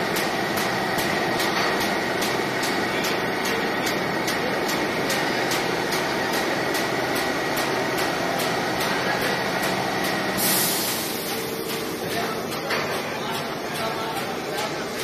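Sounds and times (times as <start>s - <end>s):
paper cutting machine running: 0.0s - 15.0s.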